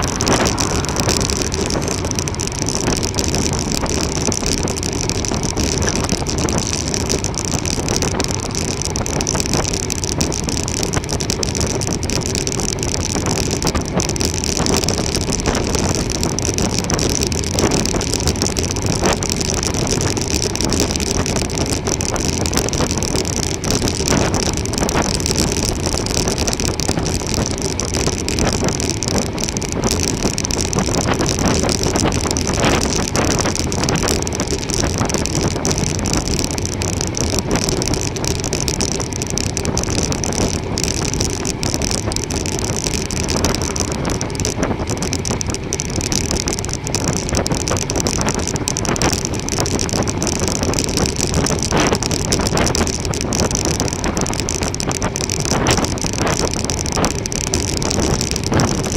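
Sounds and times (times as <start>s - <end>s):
bicycle tyre road noise: 0.0s - 58.9s
wind rushing over microphone: 0.0s - 58.9s.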